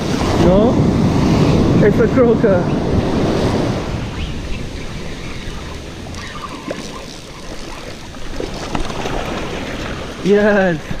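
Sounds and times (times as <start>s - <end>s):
surf washing up beach: 0.0s - 11.0s
wind rumbling on microphone: 0.0s - 11.0s.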